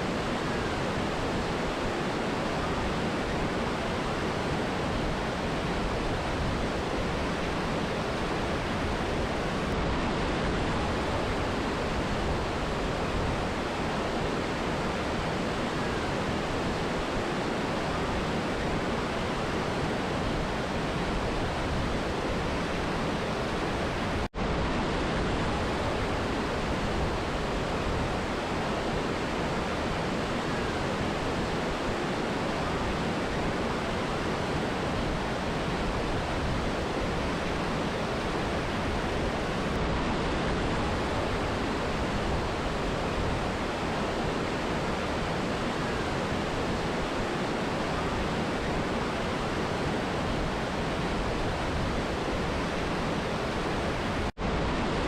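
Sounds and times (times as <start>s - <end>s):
river and waterfall rushing: 0.0s - 55.0s.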